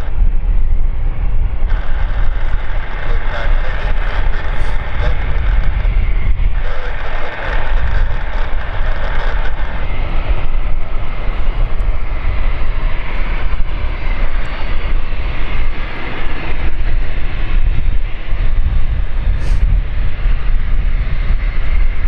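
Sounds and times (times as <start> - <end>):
jet engine rumble: 0.0 - 22.0
wind buffeting microphone: 0.0 - 22.0.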